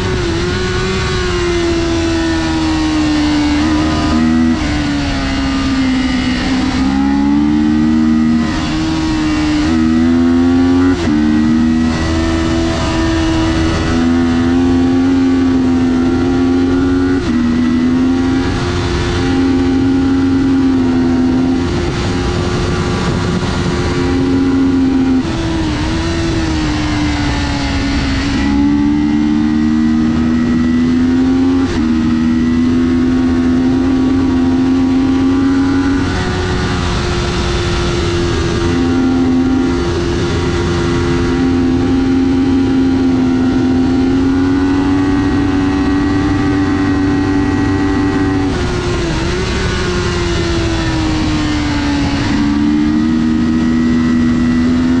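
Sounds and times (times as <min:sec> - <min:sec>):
motorcycle engine racing: 0:00.0 - 0:55.0.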